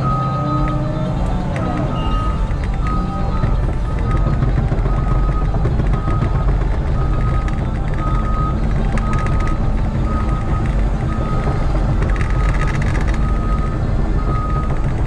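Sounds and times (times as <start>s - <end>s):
clattering rattles: 0.0s - 15.0s
excavator diesel engine running: 0.0s - 15.0s
travel alarm beeping: 0.0s - 15.0s.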